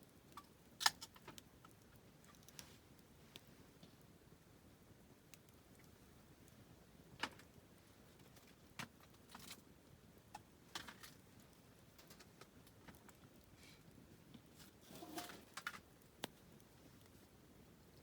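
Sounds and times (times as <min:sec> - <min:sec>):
campfire wood crackling: 0:00.0 - 0:18.0.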